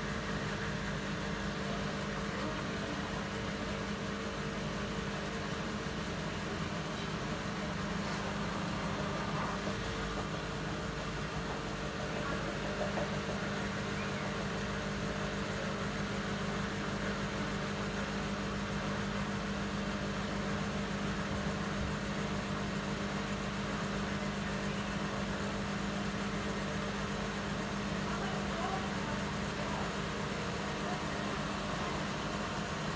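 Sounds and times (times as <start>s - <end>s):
washing machine spinning: 0.0s - 32.9s.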